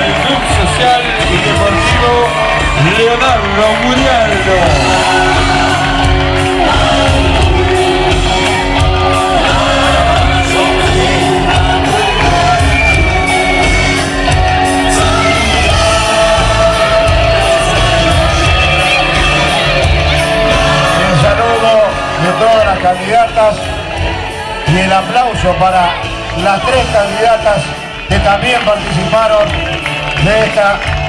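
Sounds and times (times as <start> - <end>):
crowd shouting and whooping: 0.0 - 31.0
loud music with singing: 0.0 - 31.0.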